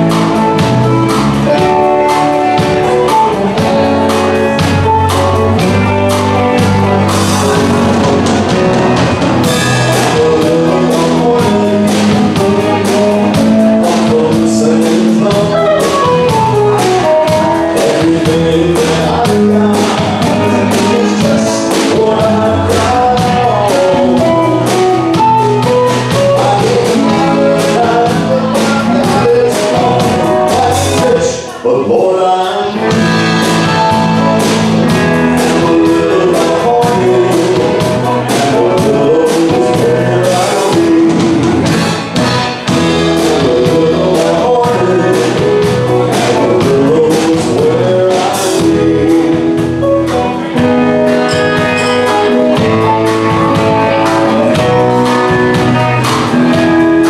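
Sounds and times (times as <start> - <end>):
live country band: 0.0 - 57.0
person singing: 0.0 - 57.0.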